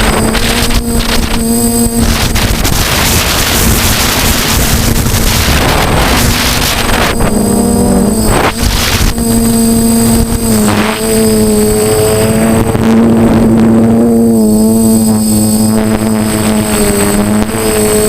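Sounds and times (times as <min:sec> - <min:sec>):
drone motors humming: 0:00.0 - 0:18.0
wind on microphone: 0:00.0 - 0:18.0.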